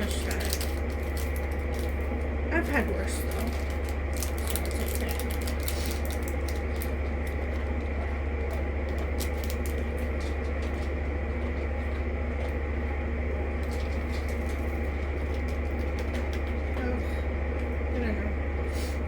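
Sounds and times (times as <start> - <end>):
loud steady low hum: 0.0 - 19.0.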